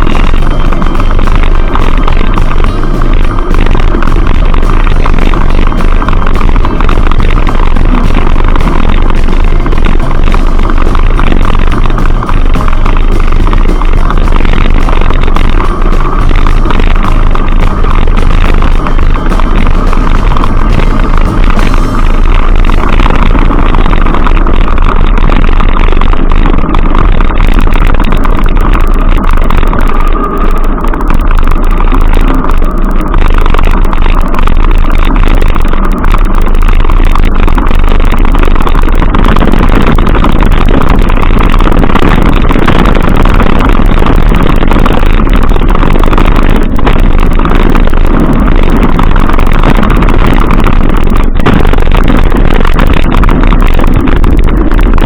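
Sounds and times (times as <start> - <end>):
loud vehicle noise: 0.0 - 55.0.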